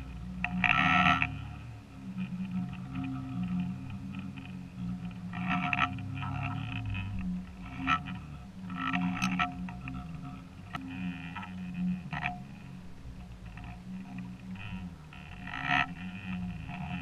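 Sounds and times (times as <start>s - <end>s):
underwater low hum: 0.0s - 17.0s.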